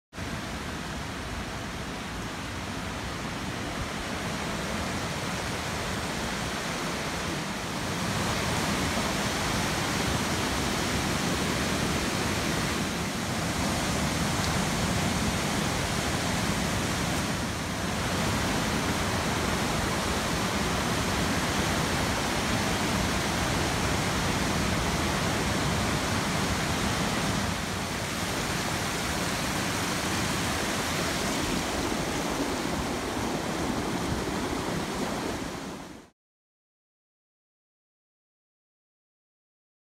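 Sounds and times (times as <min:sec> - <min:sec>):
floodwater rushing: 0:00.2 - 0:36.1.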